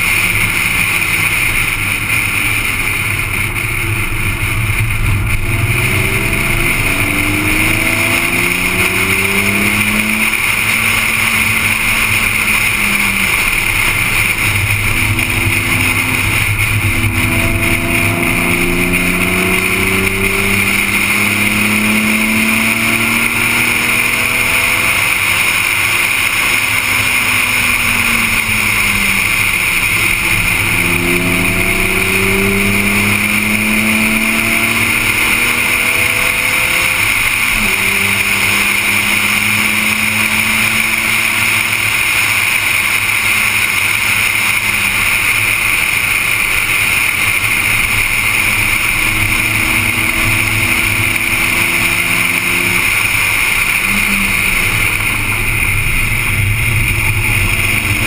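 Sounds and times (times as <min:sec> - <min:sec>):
car engine revving through gears: 0:00.0 - 0:58.0
wind and road noise: 0:00.0 - 0:58.0.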